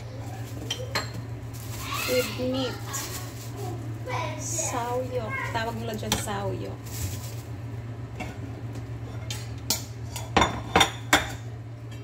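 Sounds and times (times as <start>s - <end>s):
kitchenware clattering: 0.1s - 3.5s, 4.9s - 7.4s, 8.1s - 12.0s.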